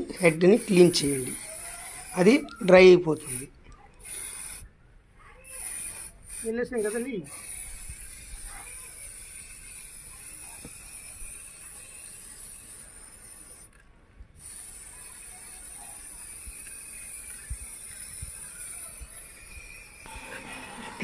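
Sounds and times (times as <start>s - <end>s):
spray paint can hissing: 0.0s - 4.7s, 5.5s - 13.8s, 14.4s - 21.0s.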